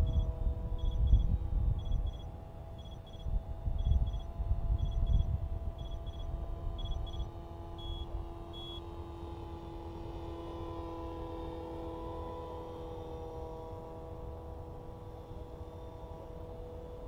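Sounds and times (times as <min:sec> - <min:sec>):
rc helicopter motor and rotors whine: 0:00.0 - 0:17.0.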